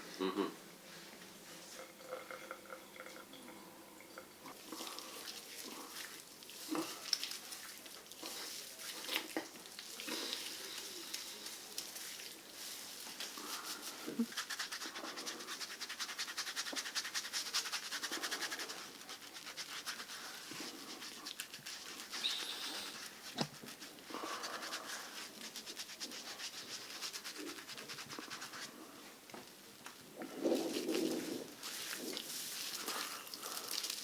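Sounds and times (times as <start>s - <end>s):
scratchy scrubbing of face and head: 4.6s - 28.8s, 30.3s - 34.0s.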